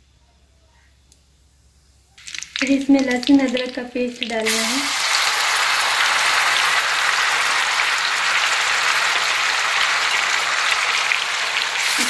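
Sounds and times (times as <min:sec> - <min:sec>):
paste sizzling in hot fat: 0:02.2 - 0:12.0.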